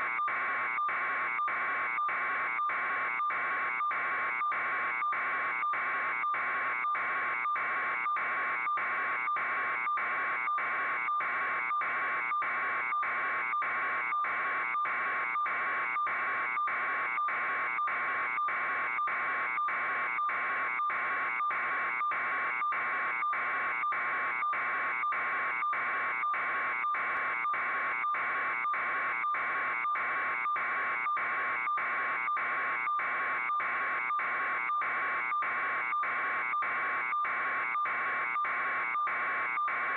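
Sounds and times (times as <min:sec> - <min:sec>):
electronic buzzing alarm: 0:00.0 - 0:39.9.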